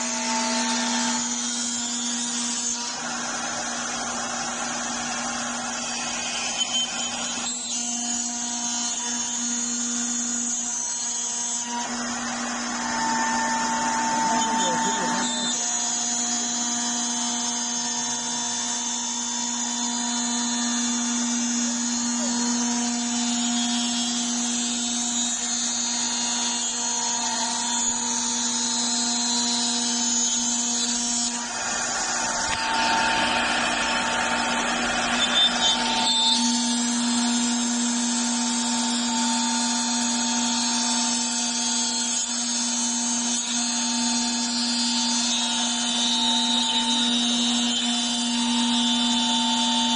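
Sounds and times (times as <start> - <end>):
bit cutting wood: 0.0 - 49.9
router spindle whining: 0.0 - 49.9.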